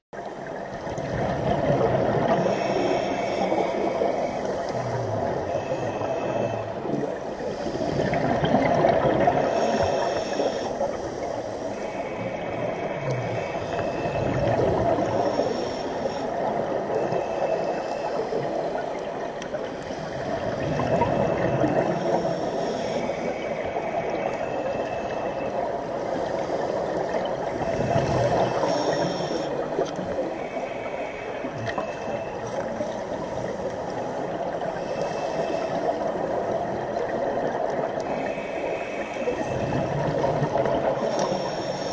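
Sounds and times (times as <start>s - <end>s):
regulator bubbles gurgling underwater: 0.2s - 41.9s
steady watery hiss: 0.2s - 41.9s.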